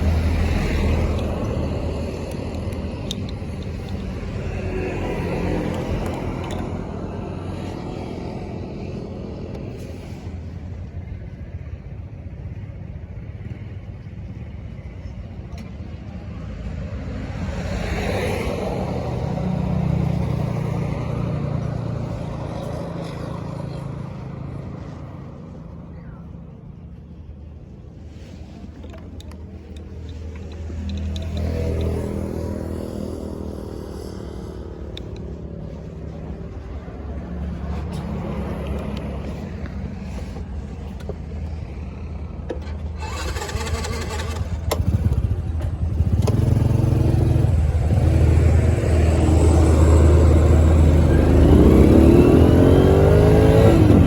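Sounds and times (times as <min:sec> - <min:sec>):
vehicle engines rumbling: 0:00.0 - 0:54.0.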